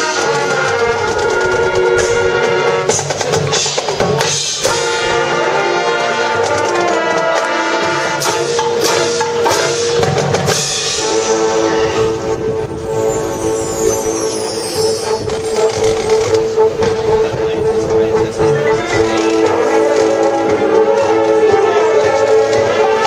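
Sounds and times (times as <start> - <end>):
drum and percussion strikes: 0.0 - 23.0
wind instrument chords: 0.0 - 23.0.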